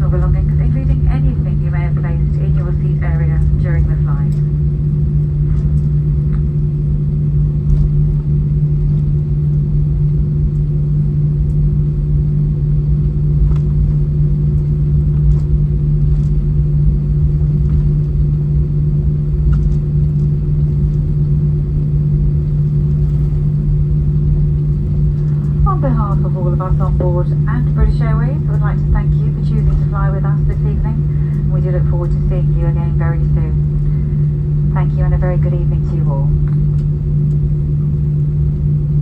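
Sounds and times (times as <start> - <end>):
airplane cabin rumble: 0.0 - 39.0
constant low hum: 0.0 - 39.0
faint clicks in cabin: 0.1 - 10.7, 12.8 - 18.4, 19.2 - 21.8, 22.4 - 38.8.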